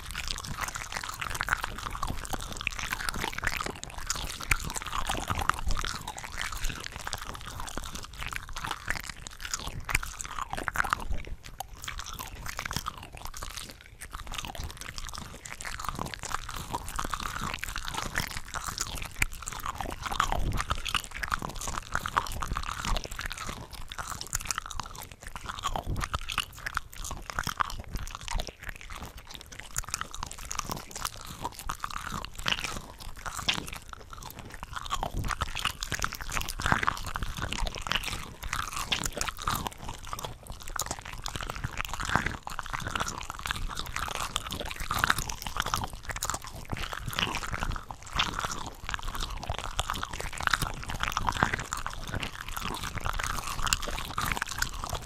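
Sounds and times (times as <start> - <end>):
close chewing and crunching: 0.0 - 55.0.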